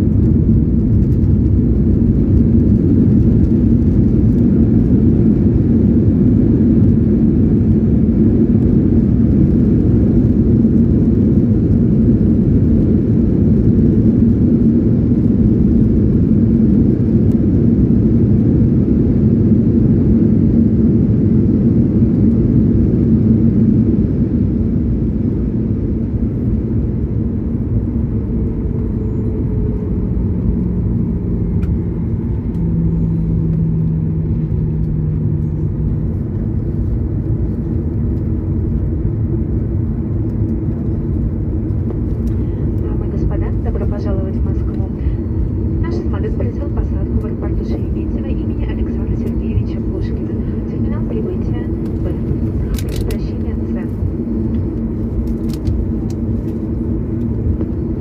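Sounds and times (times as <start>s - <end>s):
engine and wheel rumble: 0.0s - 58.0s
low engine tones: 0.0s - 58.0s.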